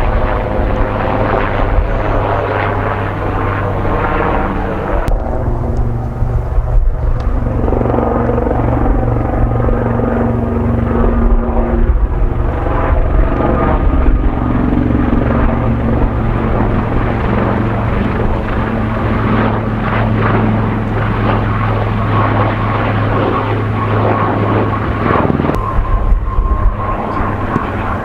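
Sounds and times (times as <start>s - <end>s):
helicopter rotors and turbine: 0.0s - 28.0s
wind buffeting microphone: 0.0s - 28.0s.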